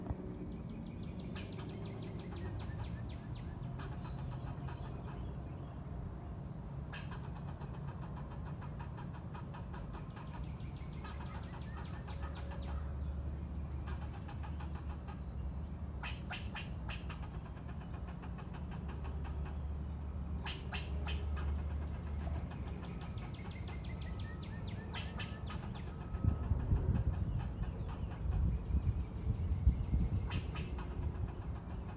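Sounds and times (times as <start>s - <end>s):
squirrel chattering: 1.2s - 5.5s, 6.9s - 15.3s, 15.9s - 28.9s, 30.0s - 31.9s.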